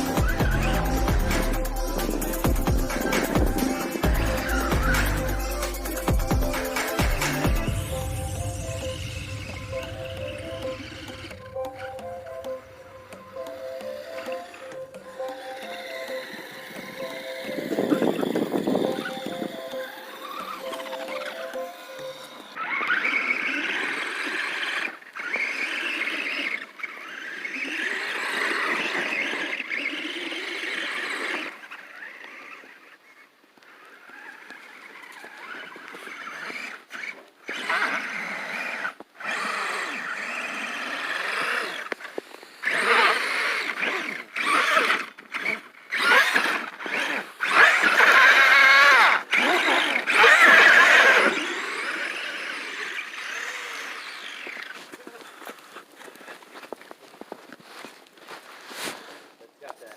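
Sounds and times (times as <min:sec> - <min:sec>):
rc truck motors whining: 0:00.0 - 0:56.2.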